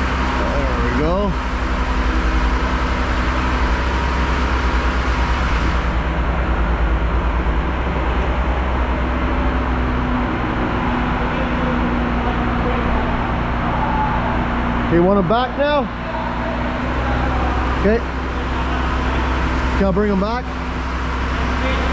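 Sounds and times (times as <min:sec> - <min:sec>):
diesel truck engine idling: 0:00.0 - 0:21.9.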